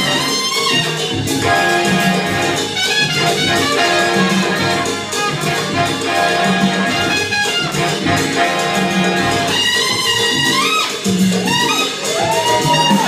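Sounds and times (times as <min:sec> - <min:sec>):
mambo music with brass section: 0:00.0 - 0:13.0.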